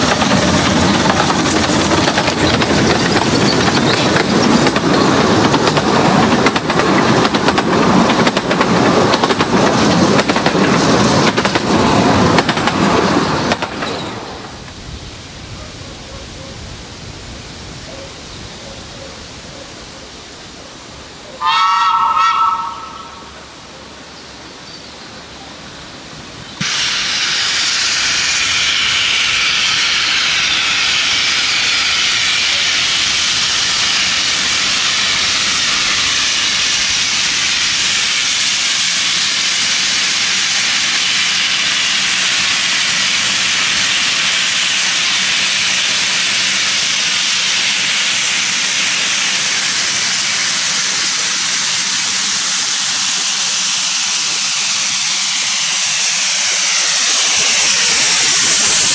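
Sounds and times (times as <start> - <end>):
steam locomotive hissing: 0.0 - 58.9.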